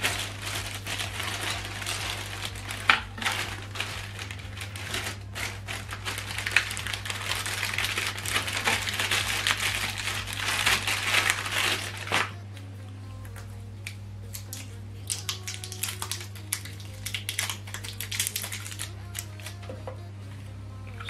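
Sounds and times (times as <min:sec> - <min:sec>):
packaging rustling and crinkling: 0:00.0 - 0:12.4, 0:15.1 - 0:19.6.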